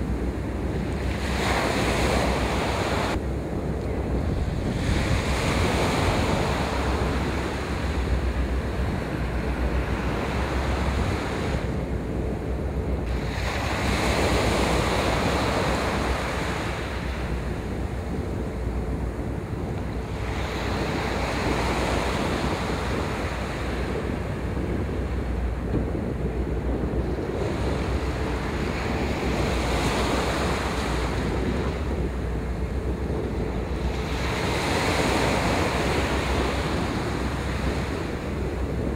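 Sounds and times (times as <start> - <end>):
waves washing on shore: 0.0 - 3.2, 4.1 - 38.9
wind rumbling on microphone: 0.0 - 38.9.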